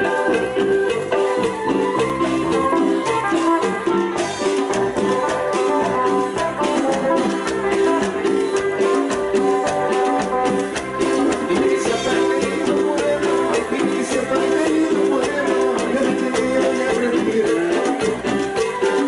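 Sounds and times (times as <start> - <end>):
steady percussion beat: 0.0 - 19.0
tropical dance band playing: 0.0 - 19.0.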